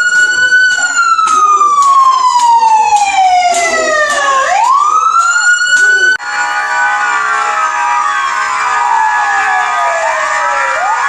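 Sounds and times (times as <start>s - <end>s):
police sirens wailing: 0.0s - 11.0s
pulsing sirens: 0.0s - 11.0s.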